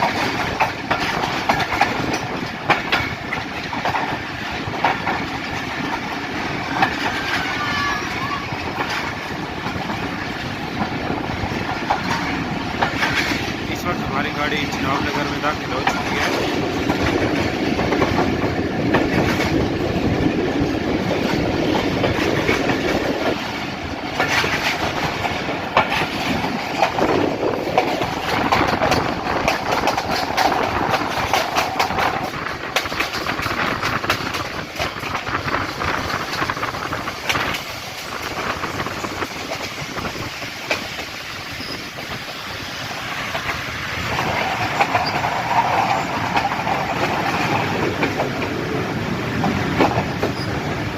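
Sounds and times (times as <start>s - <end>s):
train wheel rumble: 0.0s - 50.9s
wheels clattering over rail joints: 0.0s - 50.9s.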